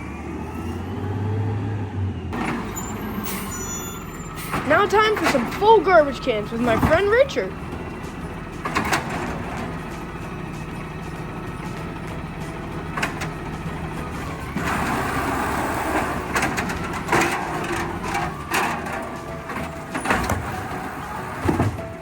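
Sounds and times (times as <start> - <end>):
garbage truck engine running: 0.0 - 22.0.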